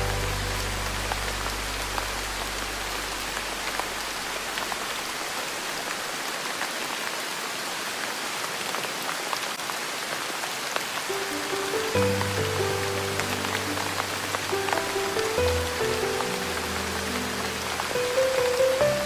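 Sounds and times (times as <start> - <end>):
rain falling on surface: 0.0 - 19.0.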